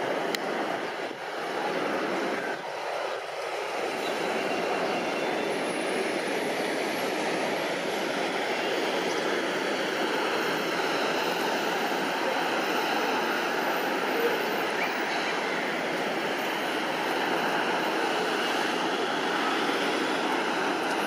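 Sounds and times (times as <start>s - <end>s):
airliner jet engines landing: 0.0s - 21.0s.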